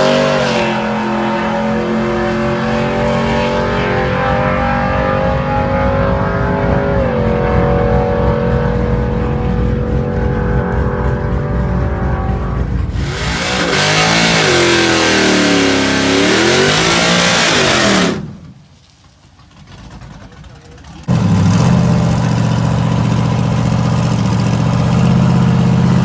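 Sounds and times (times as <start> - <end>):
drag racing engine revving: 0.0 - 18.6, 19.6 - 26.0.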